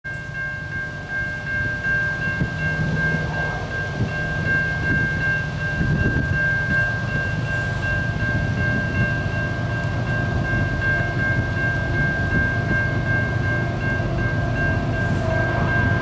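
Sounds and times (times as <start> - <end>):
freight train locomotive rumble: 0.0 - 16.0
steady high ringing tone: 0.1 - 16.0.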